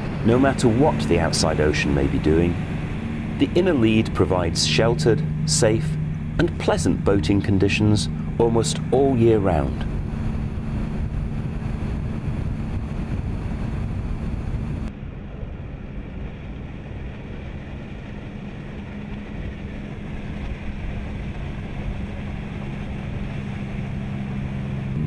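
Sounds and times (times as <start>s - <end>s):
boat engine hum: 0.0s - 25.0s
rushing wind and water: 0.0s - 25.0s.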